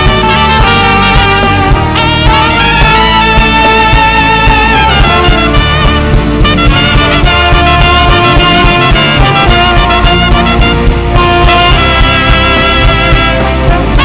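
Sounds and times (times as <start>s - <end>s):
horn holding wavering notes: 0.0s - 14.0s
live band playing: 0.0s - 14.0s.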